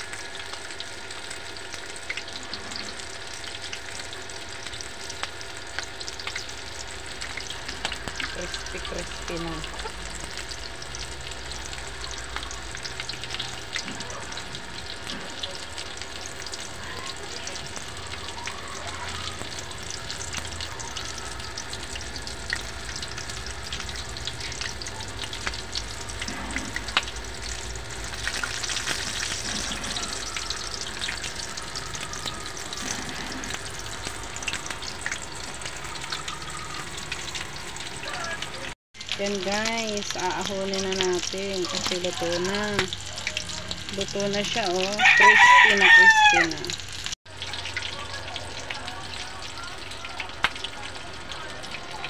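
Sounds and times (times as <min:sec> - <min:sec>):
meat deep-frying in hot oil: 0:00.0 - 0:52.0.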